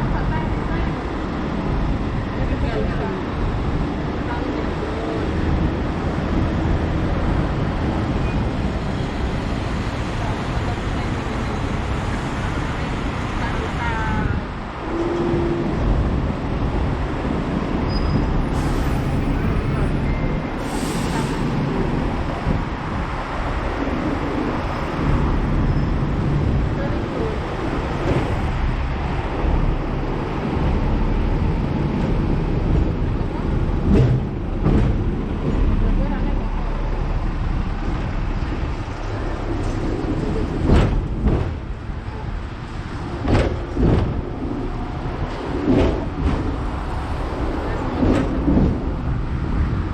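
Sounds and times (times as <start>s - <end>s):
road traffic: 0.0s - 49.9s
tram rumbling: 0.0s - 49.9s.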